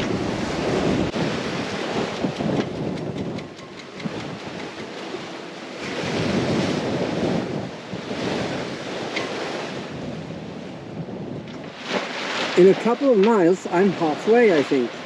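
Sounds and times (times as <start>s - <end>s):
wind on microphone: 0.0s - 13.4s
sea water rushing and splashing: 0.0s - 15.0s.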